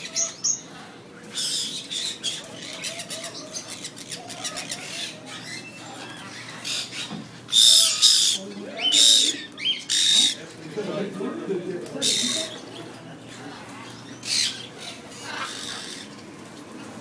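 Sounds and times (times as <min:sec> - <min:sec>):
parrots squawking and screeching: 0:00.0 - 0:10.6, 0:11.9 - 0:16.4.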